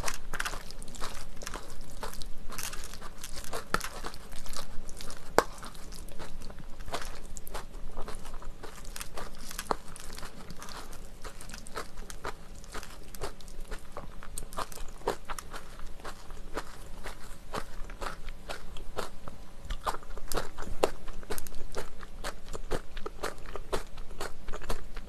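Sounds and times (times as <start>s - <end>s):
chewing with crisp clicks: 0.0s - 25.0s.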